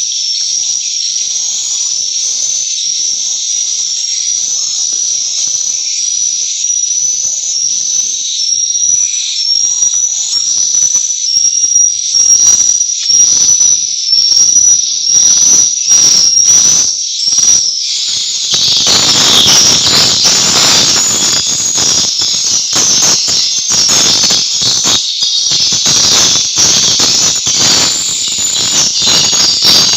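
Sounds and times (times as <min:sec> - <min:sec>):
bird twittering chirps: 0:00.0 - 0:29.9.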